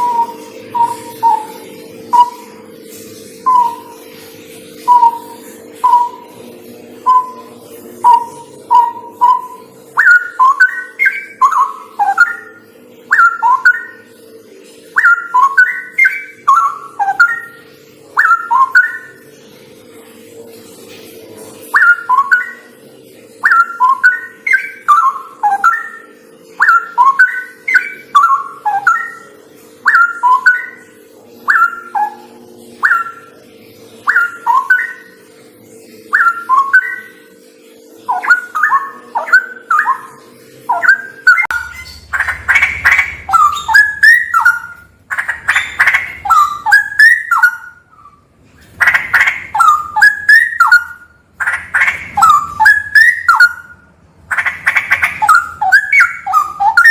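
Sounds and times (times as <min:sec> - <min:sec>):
bird singing whistled phrases: 0:00.0 - 0:02.5, 0:03.4 - 0:04.0, 0:04.9 - 0:06.3, 0:07.0 - 0:14.1, 0:15.0 - 0:17.6, 0:18.2 - 0:19.2, 0:21.7 - 0:22.7, 0:23.4 - 0:33.4, 0:34.0 - 0:35.2, 0:36.1 - 0:37.2, 0:38.1 - 0:56.9.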